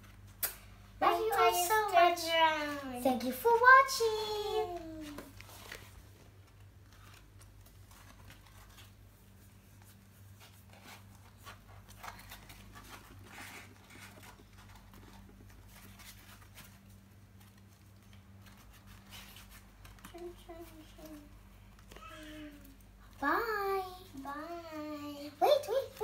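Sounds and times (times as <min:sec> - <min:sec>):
low electrical hum: 0:00.0 - 0:26.0
rustling and handling noises: 0:00.0 - 0:26.0.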